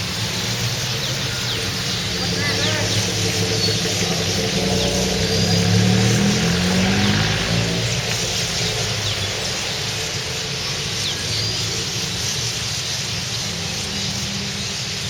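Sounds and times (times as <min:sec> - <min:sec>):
passing vehicle engine: 0:00.0 - 0:15.0.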